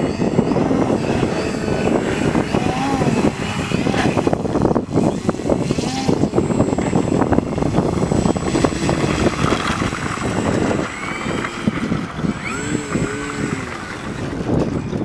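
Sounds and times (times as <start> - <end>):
model plane motor whine: 0.0 - 15.0
wind buffeting microphone: 0.0 - 15.0.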